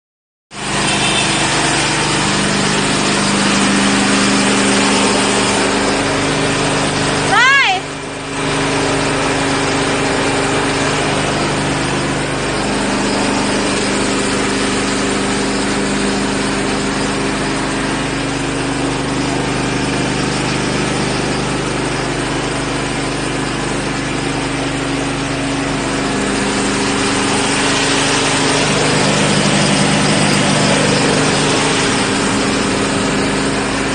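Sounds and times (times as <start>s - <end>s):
machine-like drone with hiss: 0.6s - 7.4s, 8.0s - 33.9s.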